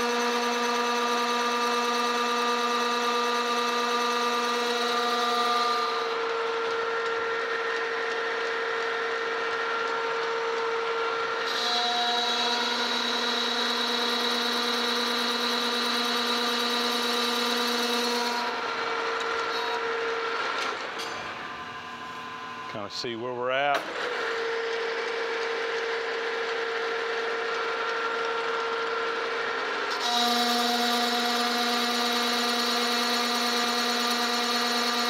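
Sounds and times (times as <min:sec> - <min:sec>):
metal lathe humming: 0:00.0 - 0:35.0.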